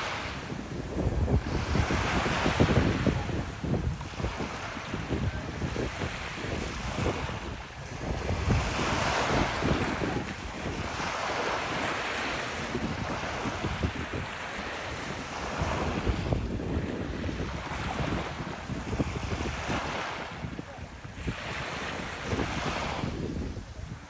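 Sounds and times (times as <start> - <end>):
ocean surf washing onto beach: 0.0 - 24.0
wind buffeting microphone: 0.0 - 24.0.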